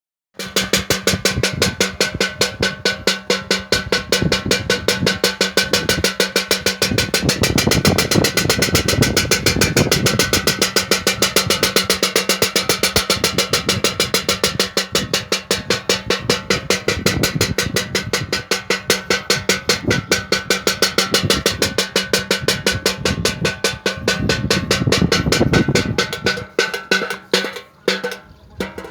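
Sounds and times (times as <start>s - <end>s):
wooden clapper rattling rapidly: 0.4s - 28.9s.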